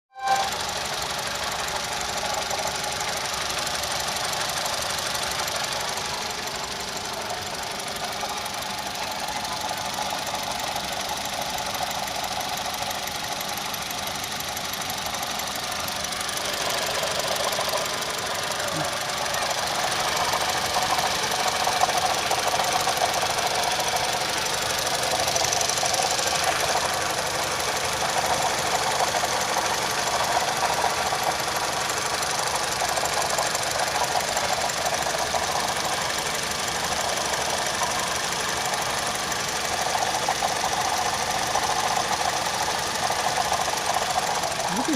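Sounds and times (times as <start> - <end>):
car engine knocking: 0.5 - 44.9.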